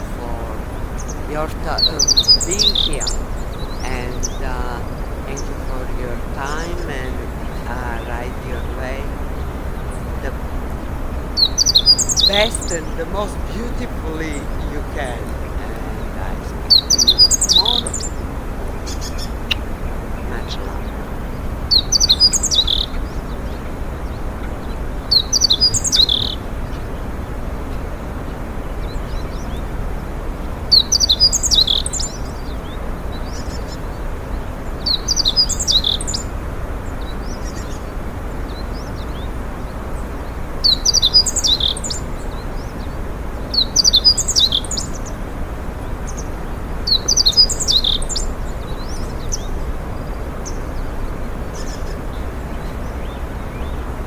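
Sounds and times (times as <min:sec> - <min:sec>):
songbird singing: 0:00.0 - 0:26.8, 0:30.7 - 0:54.0
background noise: 0:00.0 - 0:54.0.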